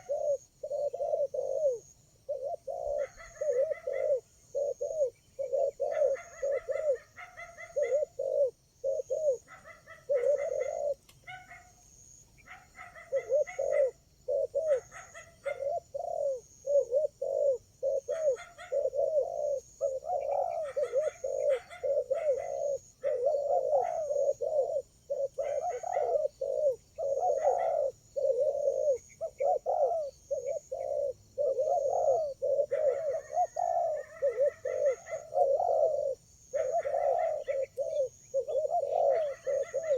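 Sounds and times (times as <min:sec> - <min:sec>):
bird chirps: 0:00.0 - 0:39.9
doves cooing: 0:00.0 - 0:39.9.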